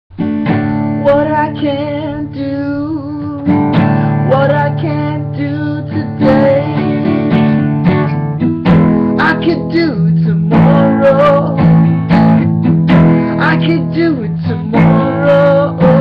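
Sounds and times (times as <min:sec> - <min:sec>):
acoustic guitar strumming: 0:00.1 - 0:16.0
man singing: 0:00.9 - 0:07.4, 0:09.0 - 0:16.0.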